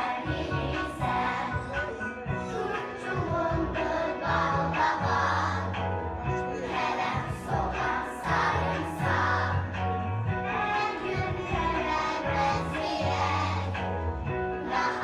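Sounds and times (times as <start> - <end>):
backing music with bass line: 0.0 - 15.0
voices singing: 0.0 - 15.0.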